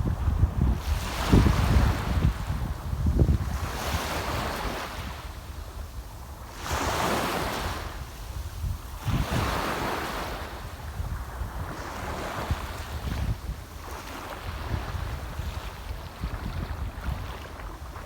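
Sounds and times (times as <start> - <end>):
sea waves washing ashore: 0.0 - 18.0
wind rumble on microphone: 0.0 - 18.0.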